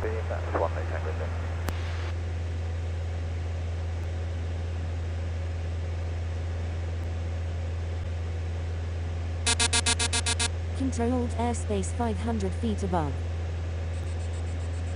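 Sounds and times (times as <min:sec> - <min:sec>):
light aircraft engine drone: 0:00.0 - 0:14.9.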